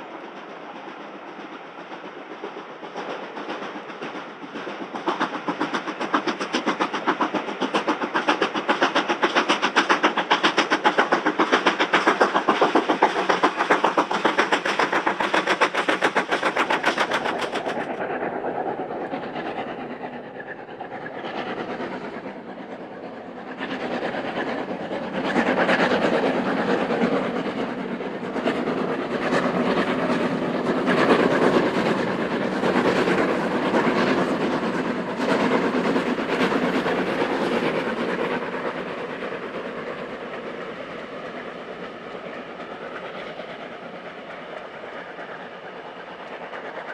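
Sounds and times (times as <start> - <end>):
rough train noise: 0.0 - 46.9
steam locomotive running: 0.0 - 46.9.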